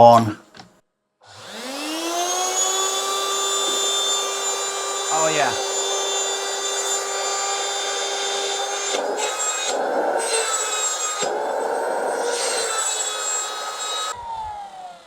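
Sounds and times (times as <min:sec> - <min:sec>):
vacuum cleaner motor whining: 0:01.3 - 0:15.0.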